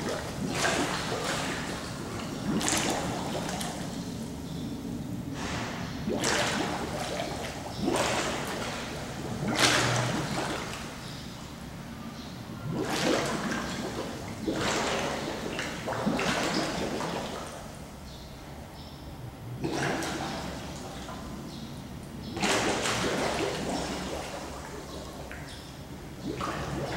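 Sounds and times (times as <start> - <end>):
underwater air bubbles rushing: 0.0 - 18.0, 19.4 - 26.9.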